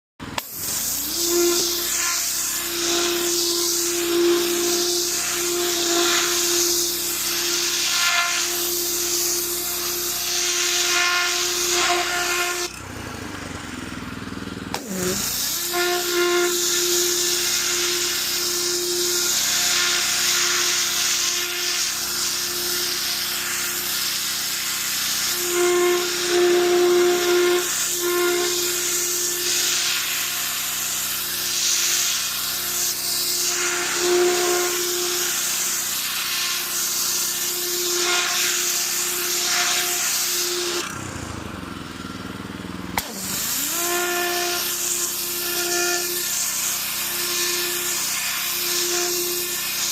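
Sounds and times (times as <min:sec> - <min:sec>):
pressure washer motor whine: 0:00.2 - 0:49.9
water jet hissing: 0:00.4 - 0:12.7, 0:14.8 - 0:40.8, 0:43.1 - 0:49.9.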